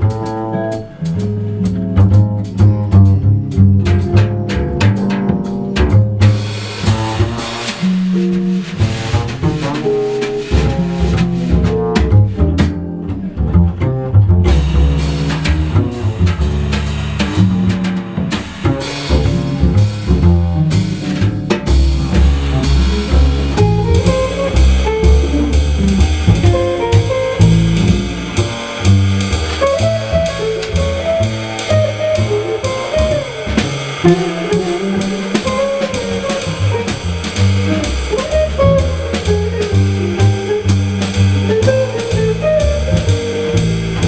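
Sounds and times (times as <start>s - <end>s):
double bass: 0.0s - 44.0s
drum kit beat: 0.0s - 44.0s
jazz guitar: 0.0s - 44.0s.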